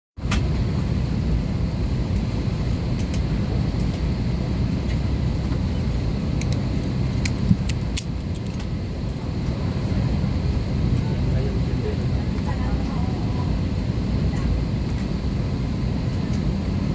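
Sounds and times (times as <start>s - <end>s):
cabin air-conditioning rumble: 0.2s - 16.9s.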